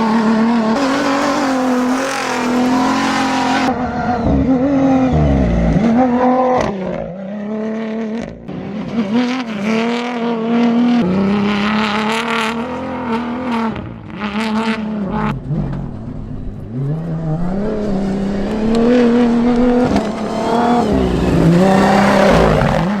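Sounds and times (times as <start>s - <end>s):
truck engine revving high: 0.0s - 23.0s.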